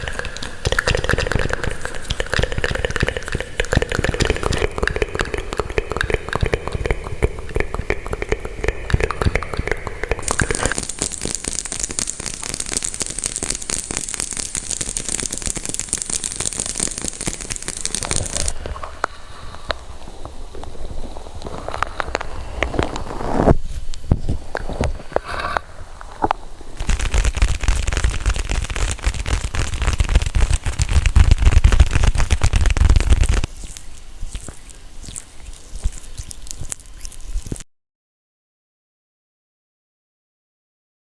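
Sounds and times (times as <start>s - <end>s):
dense crackling and crinkling: 0.0s - 37.7s.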